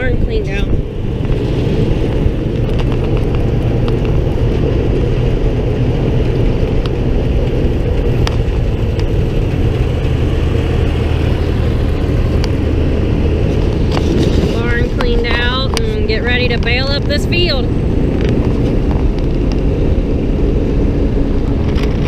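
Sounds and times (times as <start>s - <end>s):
farm vehicle engine running: 0.0s - 22.0s.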